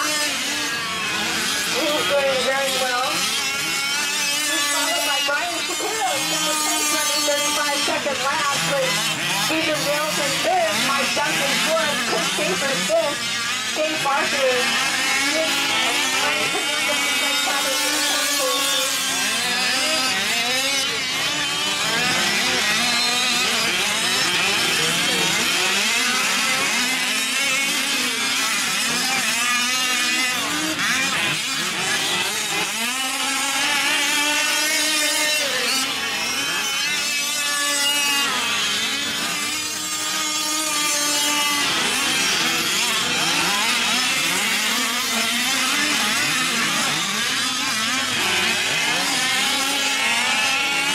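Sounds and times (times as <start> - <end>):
rc truck engines revving: 0.0 - 50.9.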